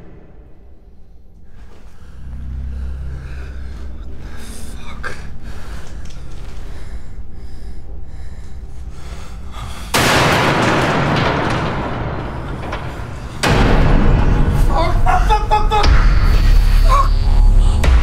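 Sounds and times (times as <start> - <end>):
low drone: 0.0 - 18.0.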